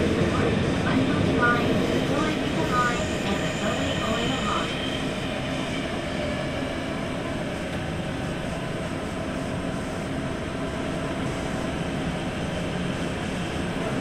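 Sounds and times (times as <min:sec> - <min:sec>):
subway wheels rumbling on rail: 0:00.0 - 0:14.0.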